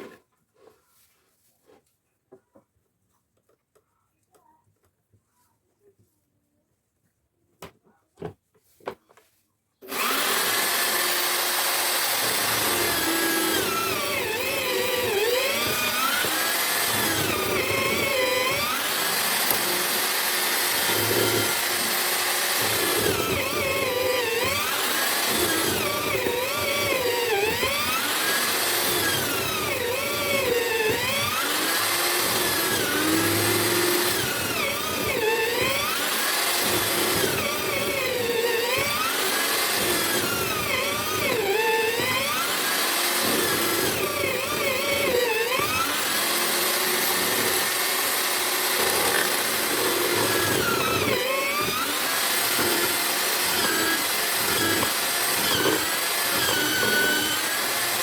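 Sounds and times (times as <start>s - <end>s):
drill motor running loudly: 9.8s - 58.0s.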